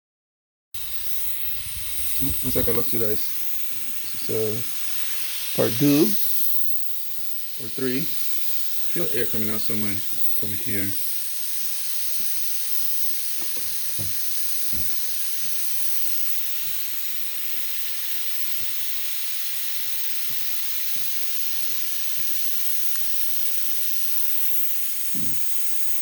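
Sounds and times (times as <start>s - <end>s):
compressed air hissing from leak: 0.8s - 26.0s.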